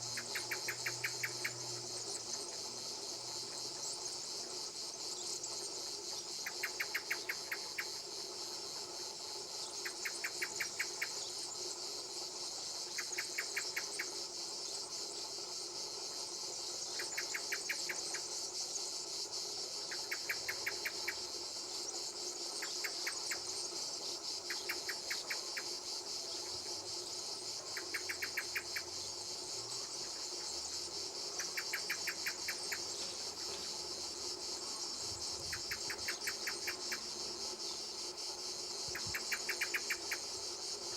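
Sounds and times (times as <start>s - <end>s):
high-pitched insect buzz: 0.0s - 40.9s.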